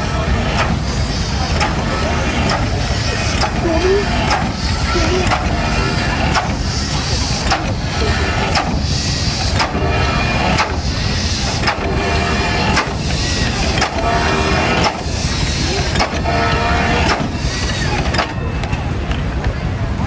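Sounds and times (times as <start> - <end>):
hissing steam puffs: 0.0 - 18.5.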